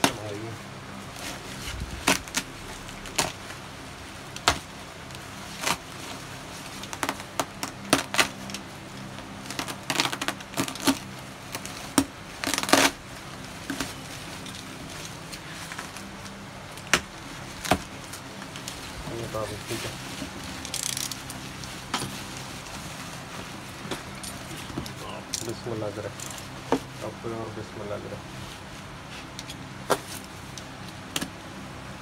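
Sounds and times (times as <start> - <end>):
plastic wrapping ripping: 0.0 - 27.1.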